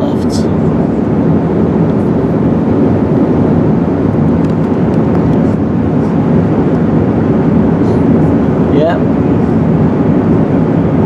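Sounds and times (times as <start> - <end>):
aircraft engine drone: 0.0 - 11.0
rush of airflow: 0.0 - 11.0.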